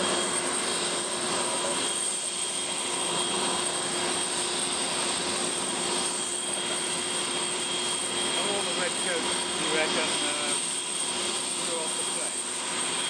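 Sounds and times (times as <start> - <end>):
jet turbine whining: 0.0 - 13.0.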